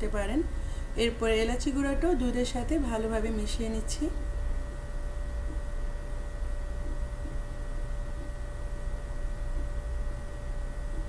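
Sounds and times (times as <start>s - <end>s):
faint thin whine: 0.0s - 11.0s
low hum: 0.0s - 11.0s.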